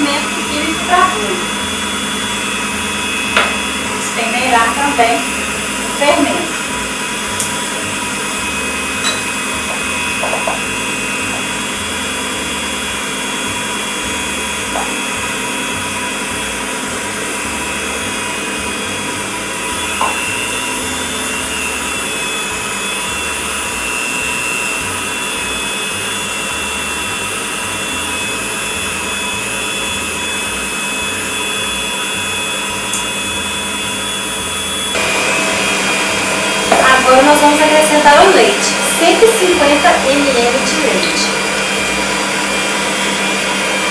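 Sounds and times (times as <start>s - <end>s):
stand mixer motor whine: 0.0s - 43.9s.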